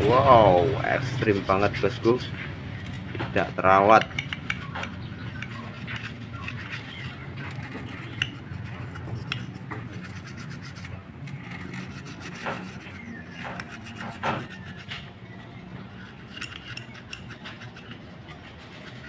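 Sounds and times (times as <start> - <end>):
brush scrubbing metal part: 1.0 - 15.1, 15.9 - 19.0.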